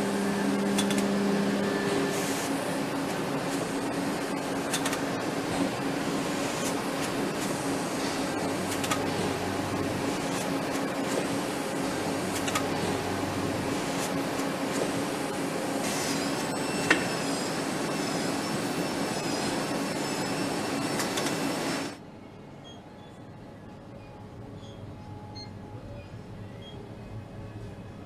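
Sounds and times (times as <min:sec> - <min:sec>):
factory machinery hum: 0:00.0 - 0:28.0.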